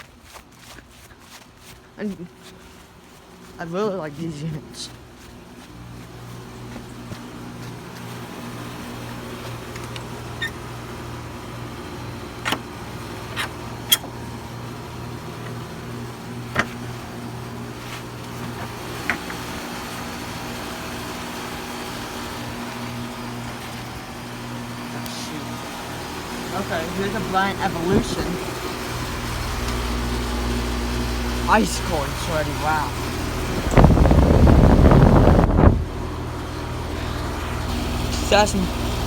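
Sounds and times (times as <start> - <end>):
heat pump compressor and fan hum: 0.0 - 39.0.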